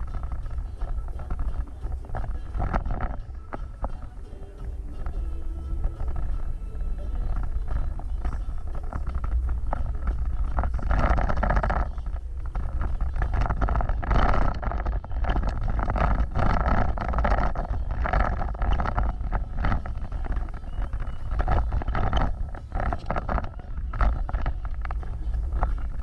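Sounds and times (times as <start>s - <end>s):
engine and wind rumble: 0.0s - 26.0s
vehicle rattling and crunching: 0.0s - 26.0s.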